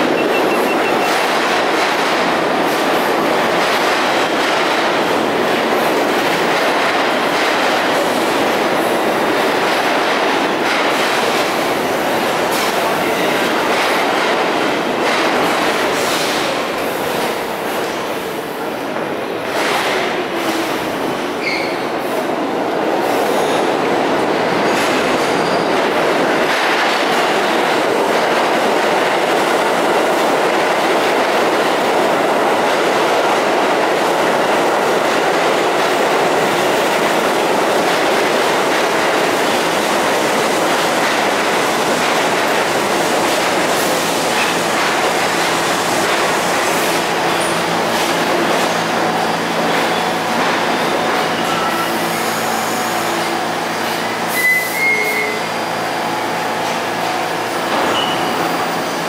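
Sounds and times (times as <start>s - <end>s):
subway train wheels rumbling: 0.0s - 59.0s.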